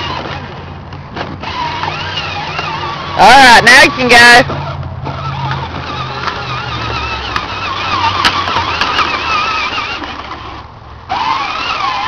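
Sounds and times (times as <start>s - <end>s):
toy tractor motor whining: 0.0s - 12.0s.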